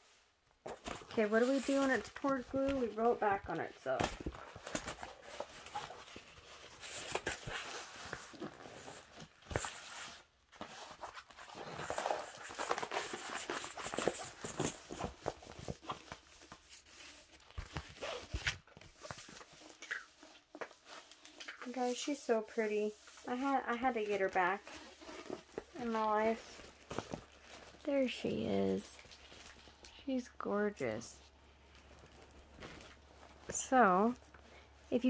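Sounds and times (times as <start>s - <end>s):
canvas and plastic film crinkling: 0.5s - 35.0s.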